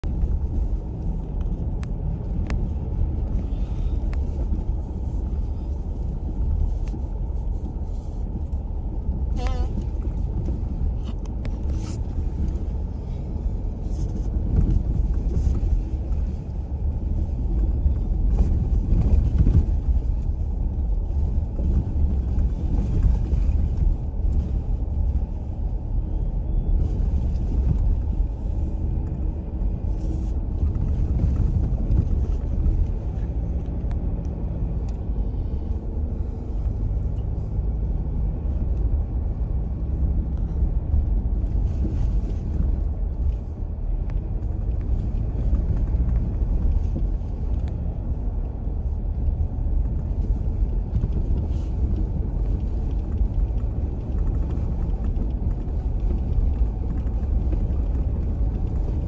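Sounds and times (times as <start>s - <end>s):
sharp clicks from road surface: 0.0s - 37.5s, 38.3s - 59.0s
car rumbling on a dirt road: 0.0s - 59.0s.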